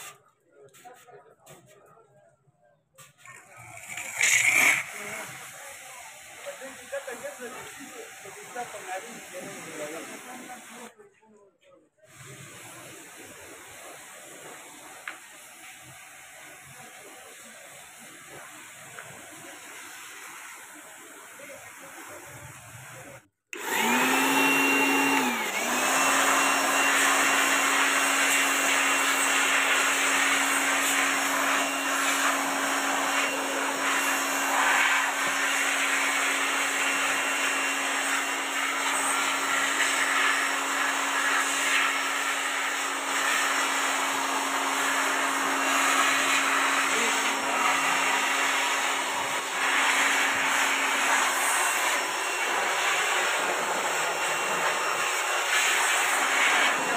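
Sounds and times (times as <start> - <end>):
pressure washer jet hissing: 0.0 - 0.2, 3.2 - 10.9, 12.1 - 56.9
electric air blower whining: 3.2 - 10.9, 12.1 - 56.9.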